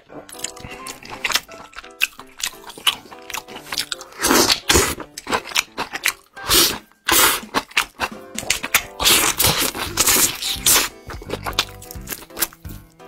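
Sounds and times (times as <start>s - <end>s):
person chewing meat: 0.0s - 13.0s
soft background music: 0.0s - 13.0s.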